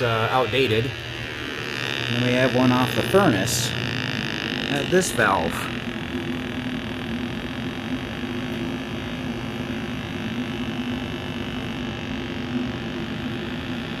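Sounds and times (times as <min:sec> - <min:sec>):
low two-tone hum: 0:00.0 - 0:14.0.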